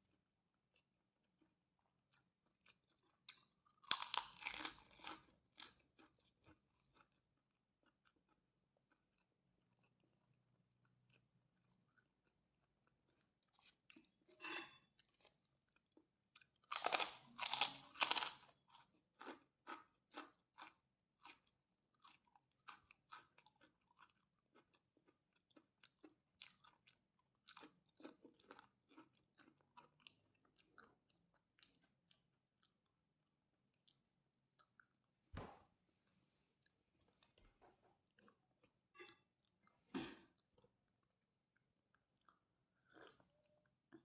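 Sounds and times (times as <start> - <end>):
person chewing and crunching: 0.0 - 35.2, 36.5 - 44.0.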